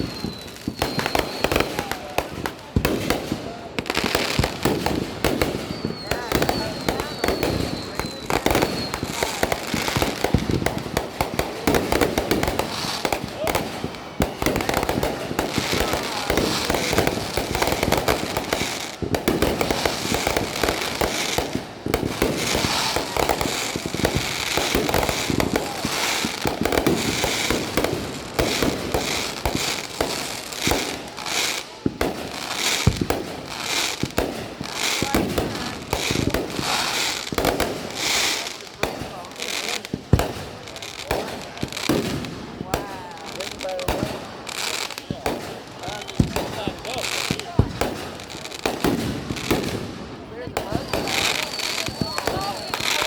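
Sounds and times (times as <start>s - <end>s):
fireworks bangs: 0.0s - 53.0s
fireworks crackling and popping: 0.0s - 53.0s.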